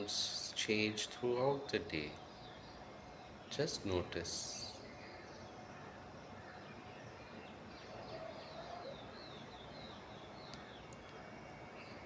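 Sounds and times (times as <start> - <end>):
background hiss: 0.0 - 12.0
birds chirping: 0.0 - 12.0.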